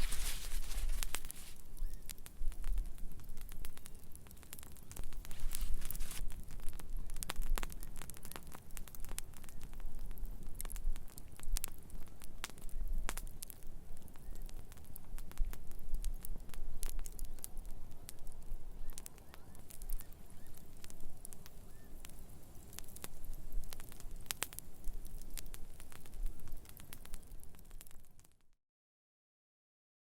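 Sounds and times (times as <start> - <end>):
campfire crackling and popping: 0.0 - 28.4.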